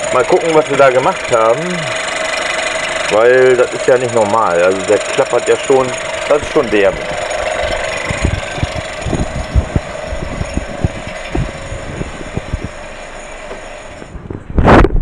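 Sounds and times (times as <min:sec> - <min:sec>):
car engine running: 0:00.0 - 0:14.6
metallic clatter: 0:00.0 - 0:14.6.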